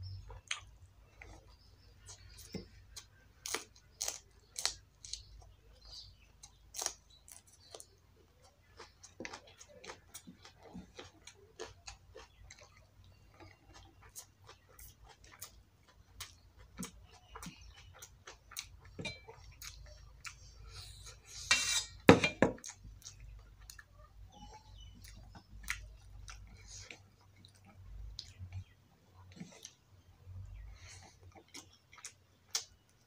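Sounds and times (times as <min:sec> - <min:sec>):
wet chewing and mouth clicks: 0:00.3 - 0:21.2, 0:22.6 - 0:29.9, 0:30.6 - 0:33.0.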